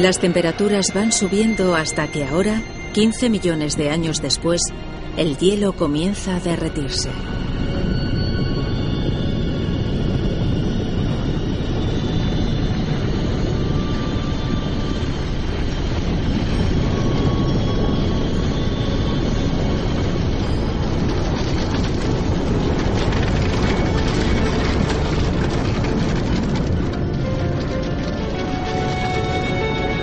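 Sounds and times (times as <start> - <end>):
deep rumble: 0.0 - 30.0
faint sustained music tones: 0.0 - 30.0.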